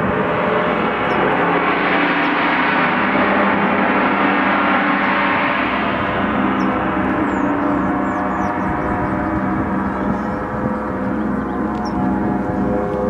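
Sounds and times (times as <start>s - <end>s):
gong ringing with mallets: 0.0s - 13.0s.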